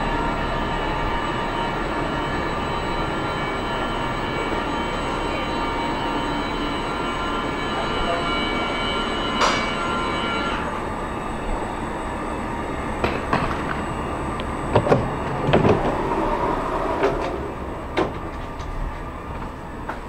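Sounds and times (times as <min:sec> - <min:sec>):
multi-tone whine: 0:00.0 - 0:20.0
train rumble: 0:00.0 - 0:20.0.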